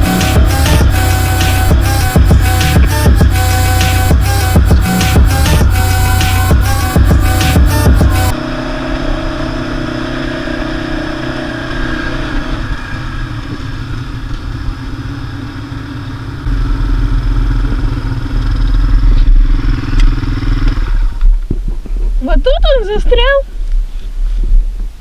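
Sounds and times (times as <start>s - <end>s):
quad bike engine running: 0.0s - 21.8s
deeper engine rumble: 0.0s - 25.0s.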